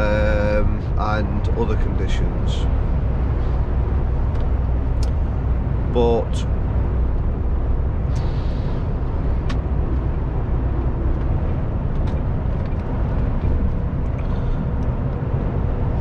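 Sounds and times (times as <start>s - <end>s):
lorry engine and road rumble: 0.0s - 16.0s.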